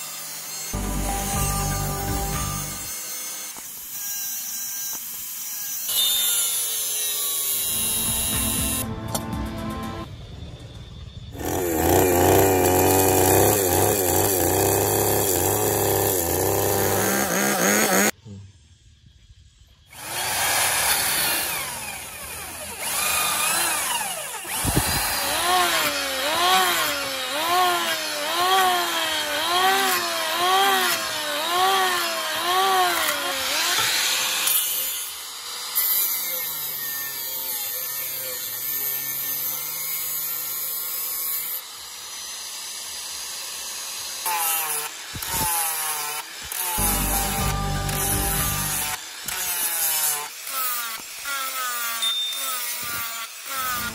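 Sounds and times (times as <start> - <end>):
angle grinder on steel: 0.0 - 8.8, 11.4 - 18.2, 20.0 - 53.9
electric planer shaving wood: 0.0 - 8.8, 11.4 - 18.2, 19.9 - 41.0, 41.6 - 53.9
loud power tool running: 0.0 - 9.2, 11.4 - 18.2, 19.9 - 38.4, 40.2 - 53.9.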